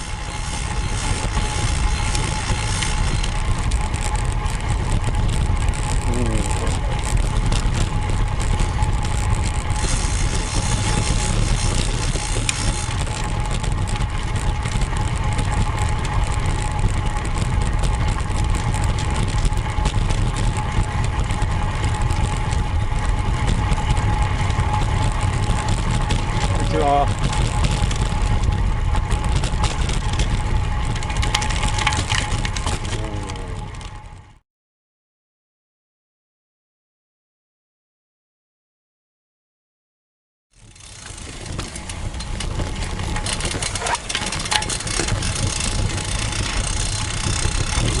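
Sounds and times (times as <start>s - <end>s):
bike tyre noise on road: 0.0s - 34.4s, 40.5s - 48.0s
wind rushing over microphone: 0.0s - 34.4s, 41.0s - 48.0s.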